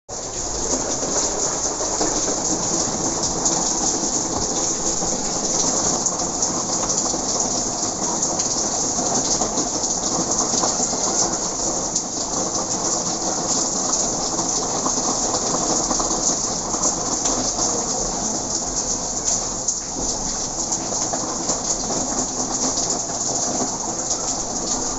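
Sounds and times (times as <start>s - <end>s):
light rain falling: 0.1s - 24.9s.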